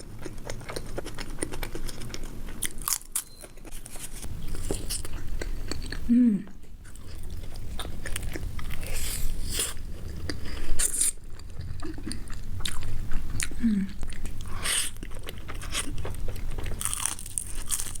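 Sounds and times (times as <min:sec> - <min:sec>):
crunching bites and chewing: 0:00.0 - 0:18.0.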